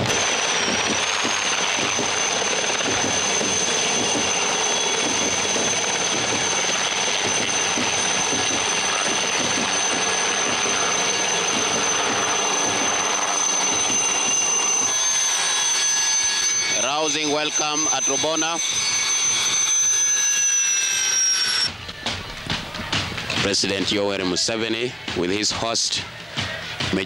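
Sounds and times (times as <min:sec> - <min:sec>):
helicopter rotor chop: 0:00.0 - 0:27.0
helicopter turbine whine: 0:00.0 - 0:27.0.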